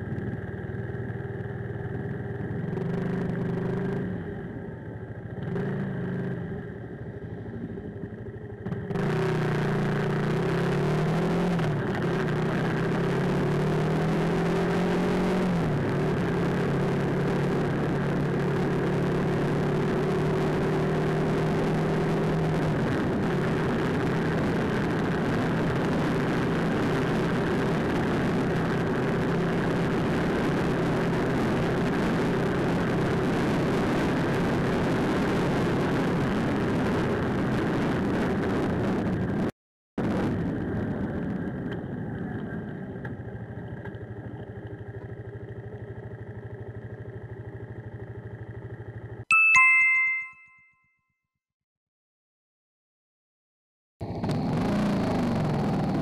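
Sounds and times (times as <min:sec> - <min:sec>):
motorcycle engine: 0:00.0 - 0:49.3
wind and road noise: 0:00.0 - 0:49.3, 0:54.0 - 0:56.0.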